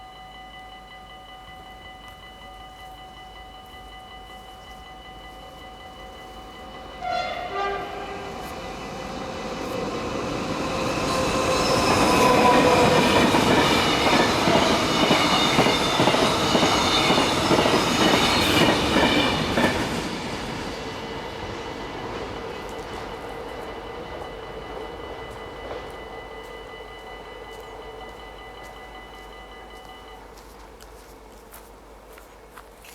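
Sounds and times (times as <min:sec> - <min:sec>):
high ringing warning bells: 0:00.0 - 0:31.3
train passing at speed: 0:01.4 - 0:32.1.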